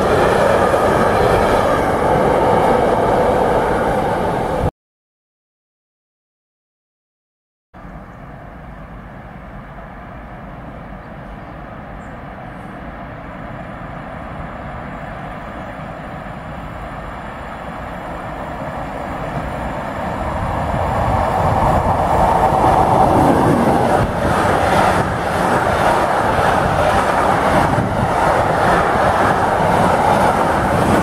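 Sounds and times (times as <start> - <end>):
freight train rumbling: 0.0 - 4.7, 7.8 - 31.0.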